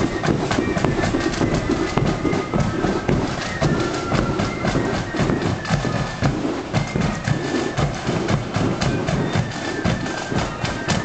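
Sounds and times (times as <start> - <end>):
drum beats: 0.0 - 11.0
wind instrument melody: 0.0 - 11.0.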